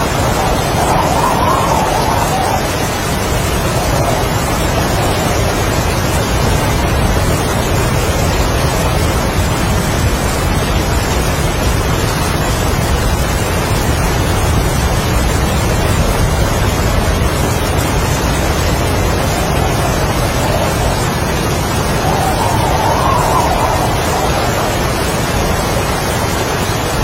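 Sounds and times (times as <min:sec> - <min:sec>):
heavy rain: 0:00.0 - 0:27.0
strong wind: 0:00.0 - 0:27.0.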